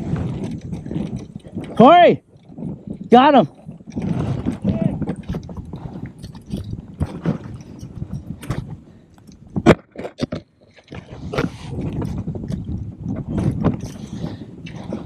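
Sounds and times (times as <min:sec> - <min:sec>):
scraping and rustling of fishing gear: 0:00.0 - 0:15.0.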